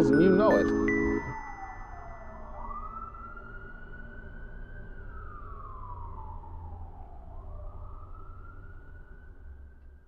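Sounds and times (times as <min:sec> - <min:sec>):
emergency siren wailing: 0:00.0 - 0:10.0.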